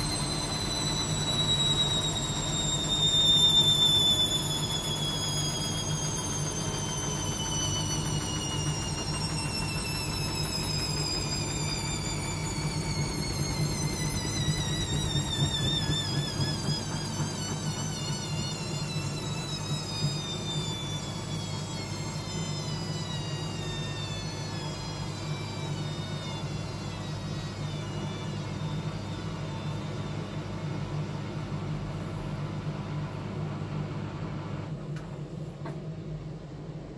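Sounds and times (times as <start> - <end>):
washing machine motor whine: 0.0 - 36.9.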